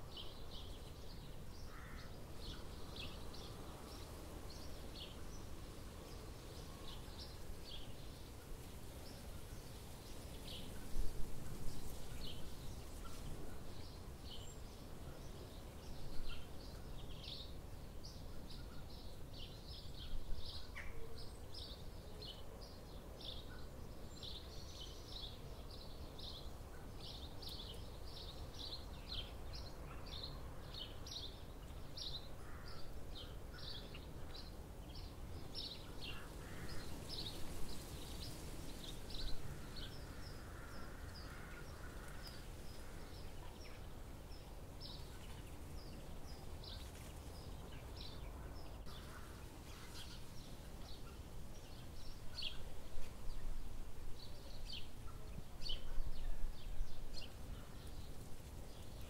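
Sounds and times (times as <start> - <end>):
small birds chirping: 0.0 - 53.6.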